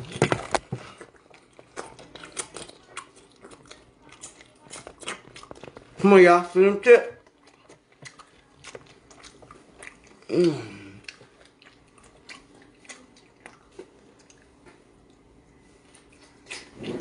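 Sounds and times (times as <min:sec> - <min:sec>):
man chewing and smacking: 0:00.0 - 0:06.6, 0:07.2 - 0:17.0.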